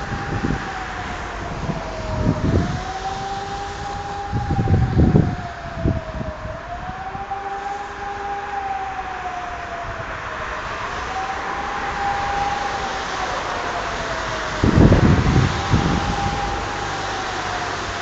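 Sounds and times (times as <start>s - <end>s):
distant lower siren: 0.0s - 18.0s
warning siren wailing: 0.0s - 18.0s
wind buffeting microphone: 0.0s - 18.0s.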